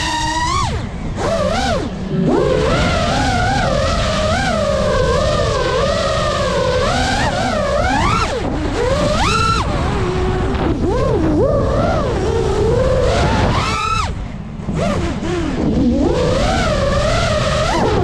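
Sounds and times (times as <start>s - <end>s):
drone motors whining: 0.0s - 18.0s
wind noise: 0.0s - 18.0s.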